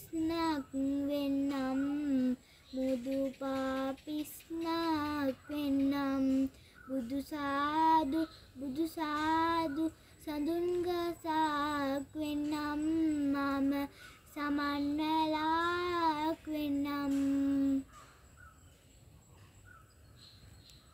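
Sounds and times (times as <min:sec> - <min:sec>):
girl singing unaccompanied: 0:00.0 - 0:18.0
faint outdoor background: 0:00.0 - 0:20.9.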